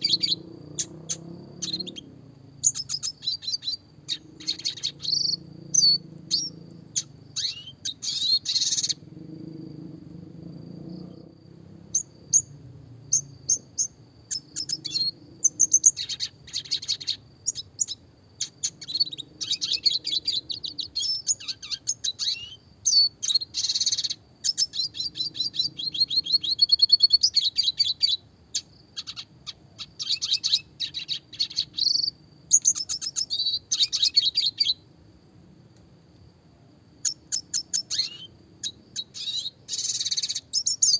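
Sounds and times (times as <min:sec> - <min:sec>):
bird twittering and trilling: 0:00.0 - 0:09.8, 0:10.5 - 0:34.8, 0:37.0 - 0:40.9.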